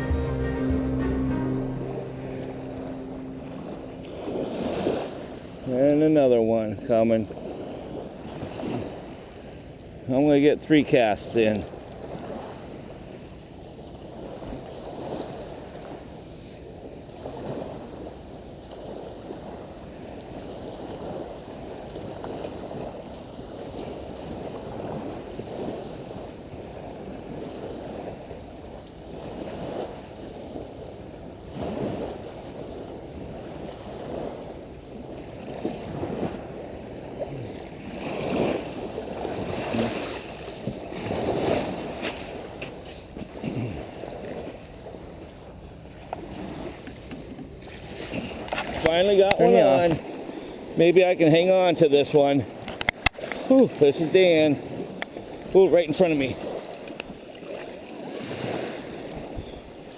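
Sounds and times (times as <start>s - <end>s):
small waves washing on beach: 0.0s - 59.9s
wind: 0.0s - 59.9s.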